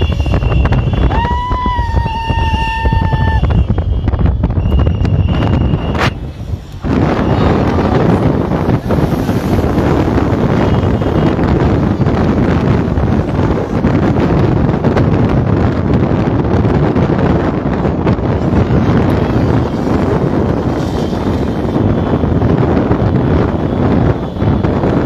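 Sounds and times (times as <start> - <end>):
traffic drone: 0.0 - 25.0
wind rushing over microphone: 0.0 - 25.0.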